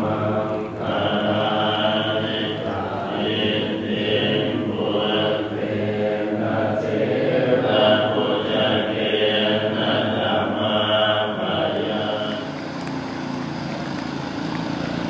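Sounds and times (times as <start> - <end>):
monks chanting in unison: 0.0 - 13.2.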